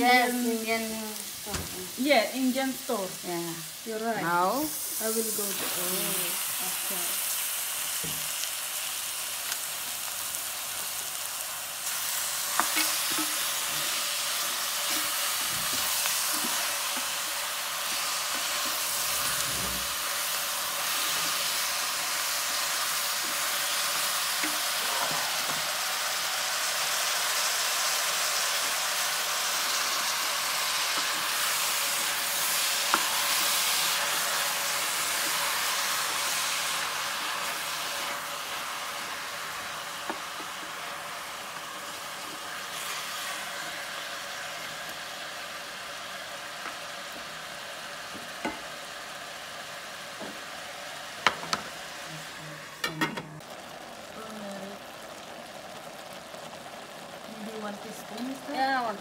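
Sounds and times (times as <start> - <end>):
meat sizzling in a pot: 0.0 - 59.0.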